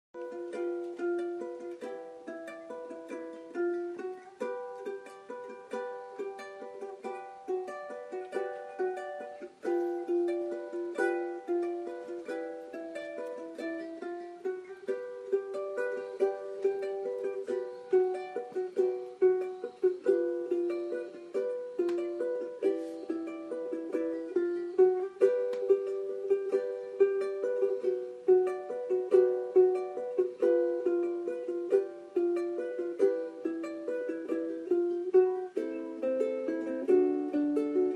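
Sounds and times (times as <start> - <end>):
ukulele plucked melody: 0.2 - 37.9.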